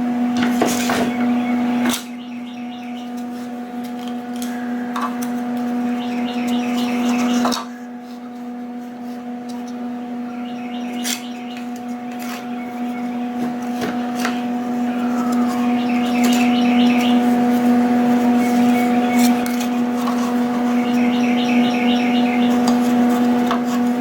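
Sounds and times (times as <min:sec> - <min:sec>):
electrical hum: 0:00.0 - 0:24.0
birds chirping: 0:00.3 - 0:24.0.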